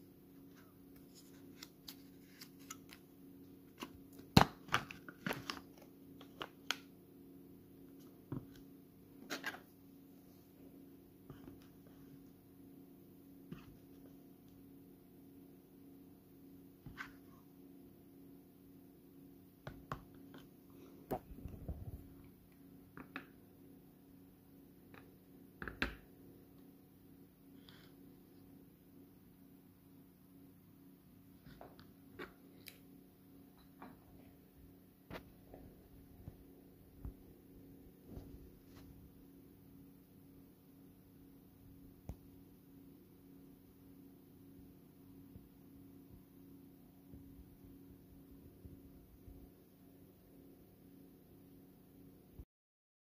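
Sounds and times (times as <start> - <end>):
faint steady hum: 0.0 - 52.4.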